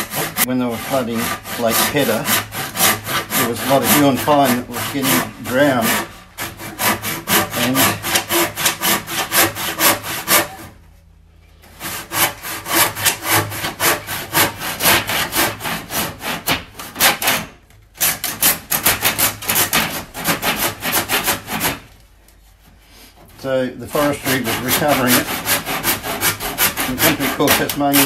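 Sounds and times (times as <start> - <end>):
hand saw cutting timber: 0.0 - 10.8, 11.7 - 21.9, 22.6 - 28.0.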